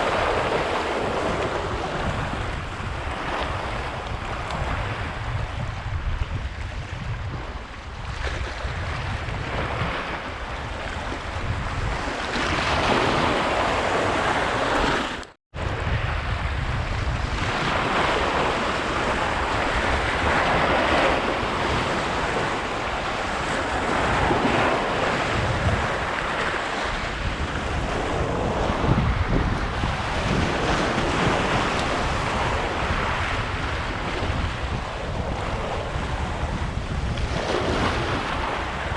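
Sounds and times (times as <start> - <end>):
sea waves washing against shore: 0.0 - 38.9
wind buffeting microphone: 0.0 - 38.9.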